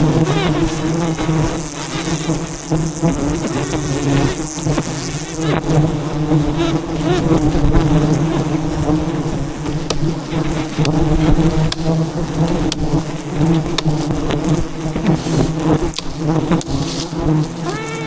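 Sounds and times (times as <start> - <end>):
bees buzzing loudly: 0.0 - 18.0.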